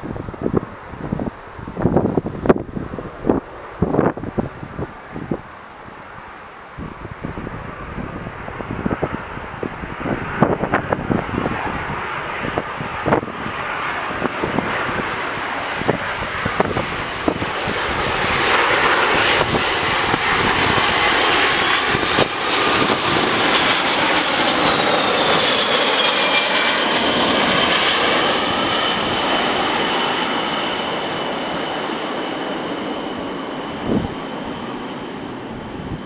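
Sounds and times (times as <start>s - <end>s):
jet engine roar and whine: 0.0s - 36.0s.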